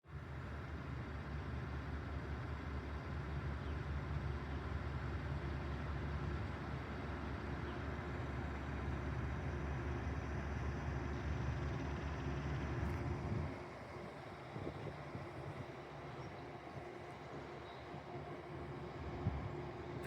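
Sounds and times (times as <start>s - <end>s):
diesel engine droning: 0.1s - 20.0s.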